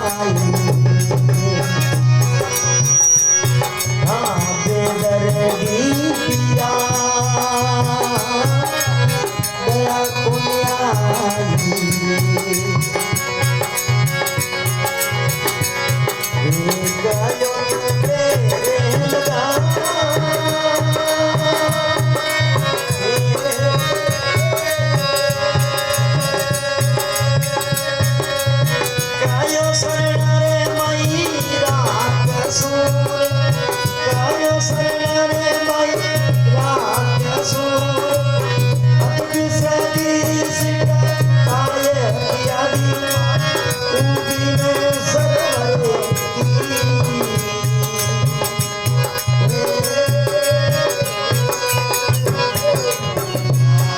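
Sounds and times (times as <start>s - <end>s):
steady percussion rhythm: 0.0s - 53.9s.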